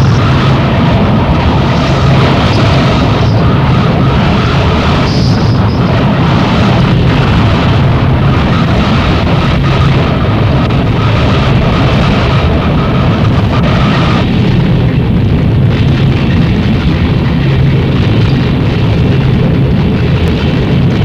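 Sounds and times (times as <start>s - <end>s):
distorted noise music: 0.0s - 21.0s
high whining layer: 0.0s - 21.0s.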